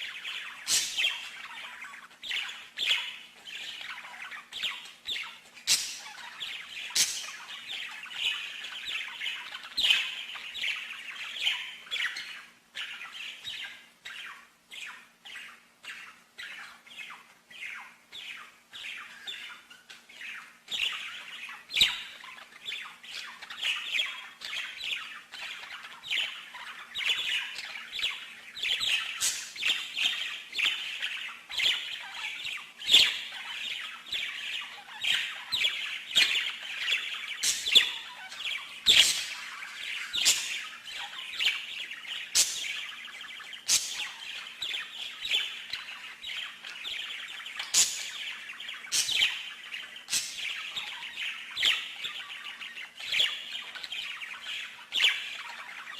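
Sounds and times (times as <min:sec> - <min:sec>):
songbird chirping and trilling: 0:00.0 - 0:55.9.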